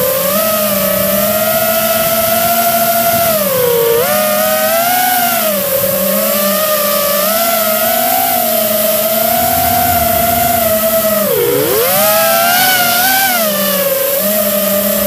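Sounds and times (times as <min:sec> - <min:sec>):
model aircraft motor whining: 0:00.0 - 0:15.0.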